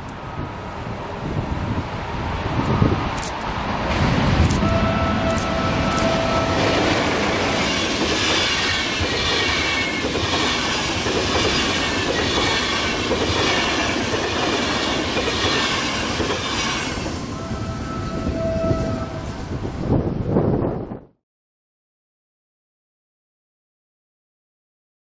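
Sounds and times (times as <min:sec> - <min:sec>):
train wheels rushing on rail: 0:00.0 - 0:21.0.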